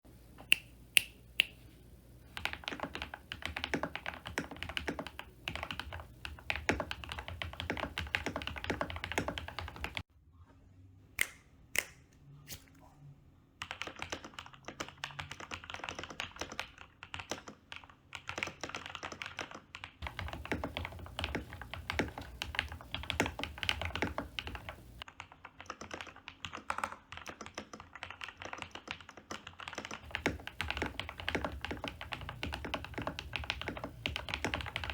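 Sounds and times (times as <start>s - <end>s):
mechanical keyboard typing: 2.3s - 10.0s, 13.6s - 34.9s.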